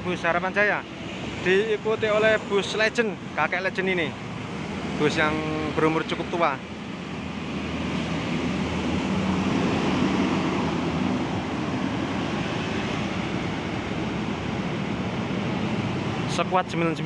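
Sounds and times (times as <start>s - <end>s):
cars and motorcycles passing: 0.0s - 17.0s.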